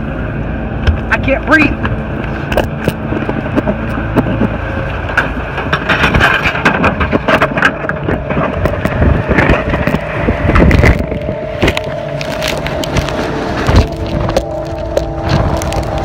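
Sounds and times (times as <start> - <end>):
car engine and road rumble: 0.0 - 16.0
knocks and rattles: 2.5 - 16.0.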